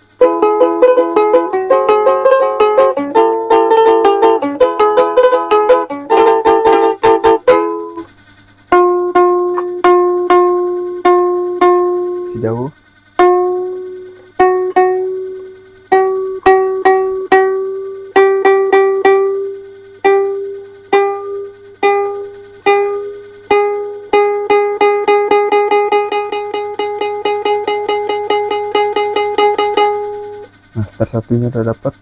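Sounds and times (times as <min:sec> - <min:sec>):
ukulele string plucked: 0:00.2 - 0:08.1, 0:08.7 - 0:30.5.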